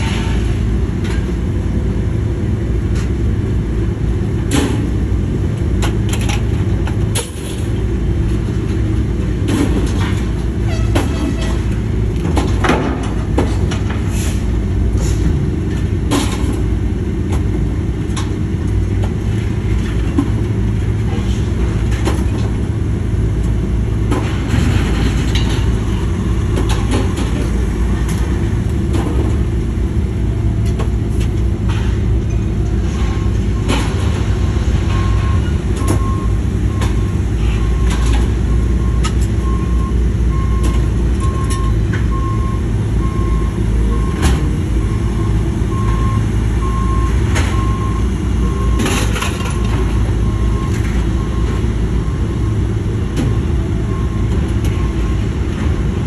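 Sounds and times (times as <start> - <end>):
hydraulic excavator running: 0.0 - 56.0.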